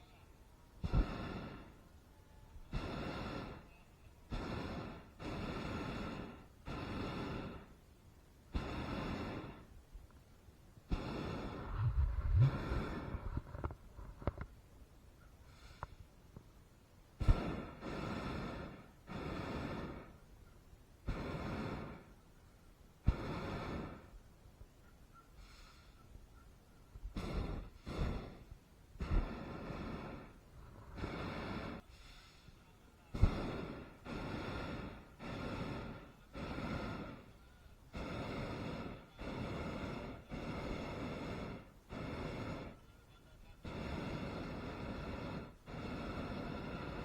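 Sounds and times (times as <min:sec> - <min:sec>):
propane burner blasts: 0:00.0 - 0:14.7, 0:15.4 - 0:47.0.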